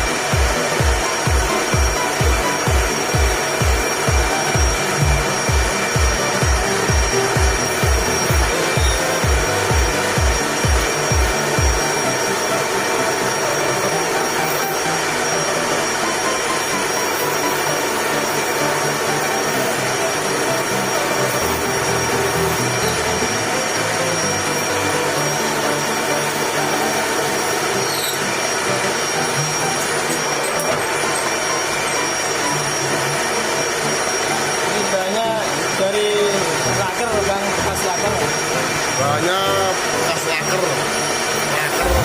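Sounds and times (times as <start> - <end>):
power tool whining: 0.0 - 42.0.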